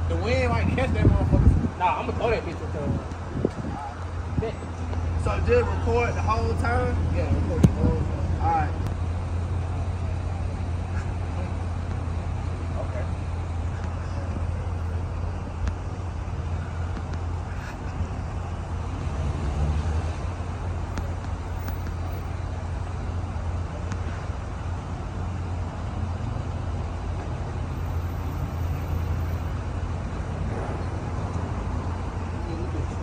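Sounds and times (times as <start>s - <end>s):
car engine low drone: 0.0s - 33.0s
road noise: 0.0s - 33.0s.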